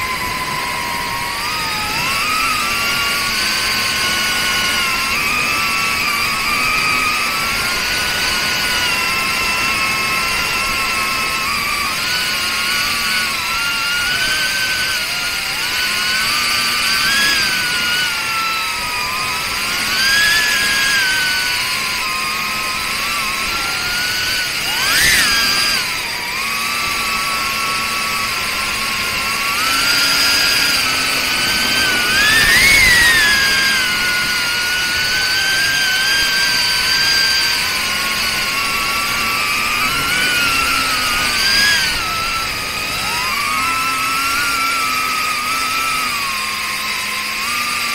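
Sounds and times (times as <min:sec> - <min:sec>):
drone motors whining: 0:00.0 - 0:47.9.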